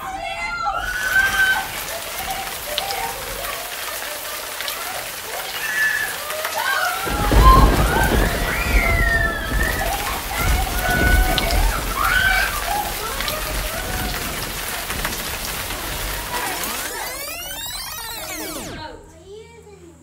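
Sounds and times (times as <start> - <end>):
heavy rain: 0.0 - 18.7
thunder rumbling: 0.0 - 19.0.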